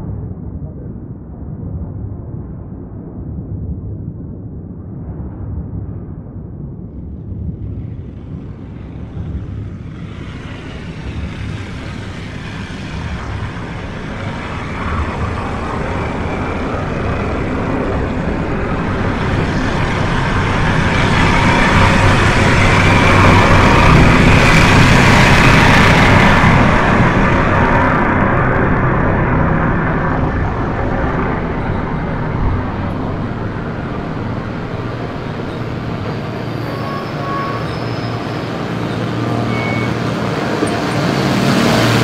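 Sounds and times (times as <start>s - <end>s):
low mechanical rumble: 0.0s - 42.0s.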